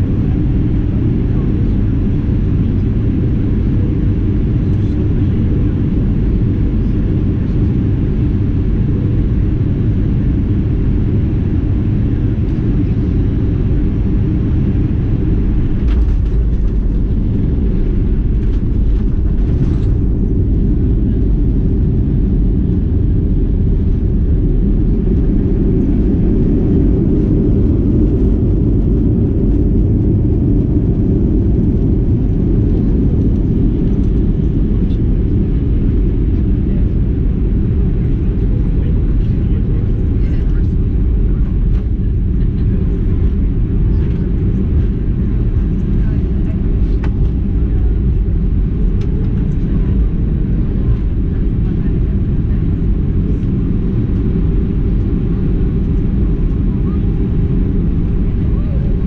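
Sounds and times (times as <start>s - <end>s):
cabin engine and airflow rumble: 0.0s - 59.0s.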